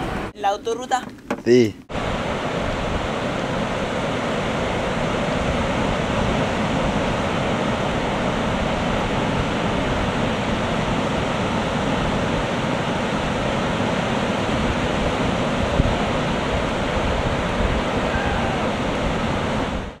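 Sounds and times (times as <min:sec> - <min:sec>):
ocean surf breaking: 0:01.4 - 0:20.0
wind buffeting microphone: 0:01.9 - 0:20.0.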